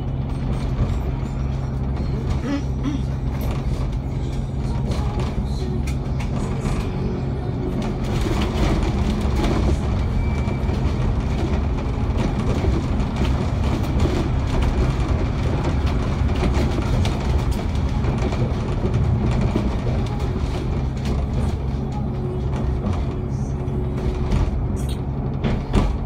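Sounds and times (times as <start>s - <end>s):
bodywork rattles and clicks: 0.0s - 7.1s, 7.7s - 26.0s
bus engine drone: 0.0s - 26.0s
road rumble: 0.0s - 26.0s.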